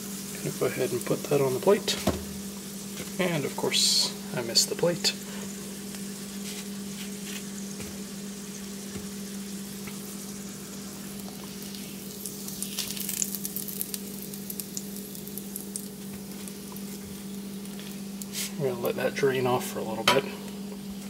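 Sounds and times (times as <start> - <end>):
bacon sizzling in a skillet: 0.0 - 19.8.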